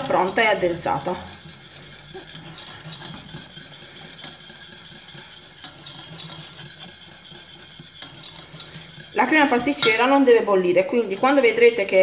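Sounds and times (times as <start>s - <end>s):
whisk scraping metal pot: 0.0s - 12.0s.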